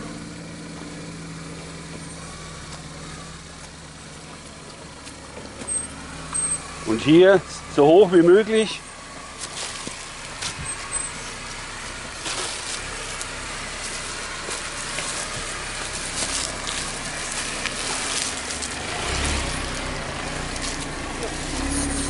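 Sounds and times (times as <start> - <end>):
car engine running low: 0.0 - 22.0
tyres crunching on dirt and stones: 0.0 - 22.0.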